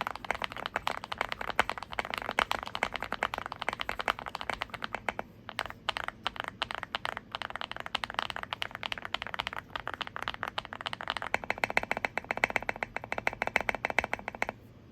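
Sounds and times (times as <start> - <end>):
mechanical keyboard typing: 0.0 - 14.6.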